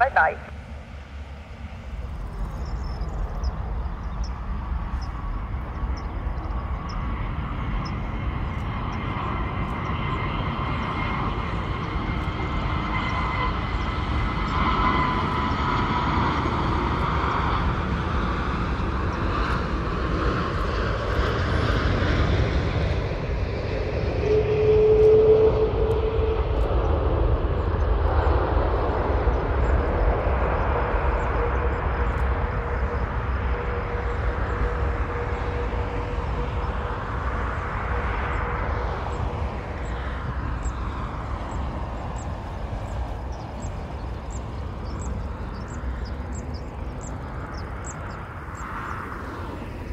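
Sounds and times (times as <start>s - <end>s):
jet engines roaring during landing: 0.0s - 49.9s.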